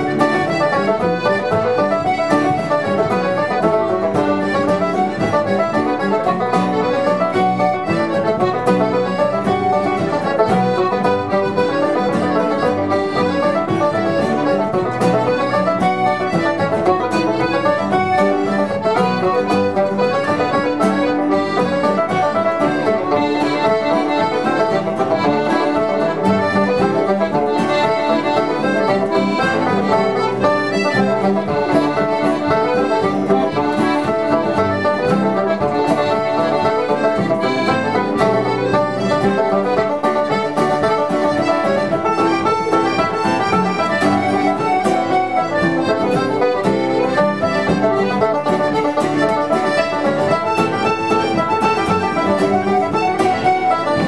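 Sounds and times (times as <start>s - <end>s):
acoustic guitars: 0.0s - 54.0s
banjo: 0.0s - 54.0s
piano accordion playing reels: 0.0s - 54.0s.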